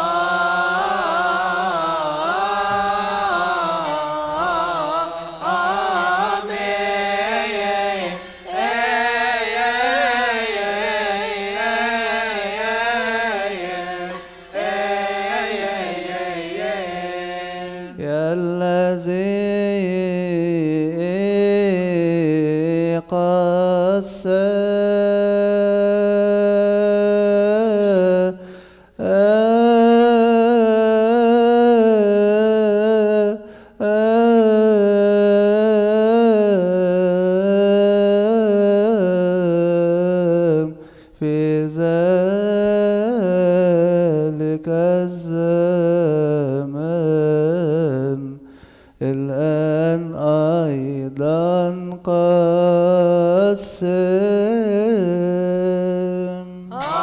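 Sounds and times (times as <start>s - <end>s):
man chanting a hymn: 0.0s - 57.0s.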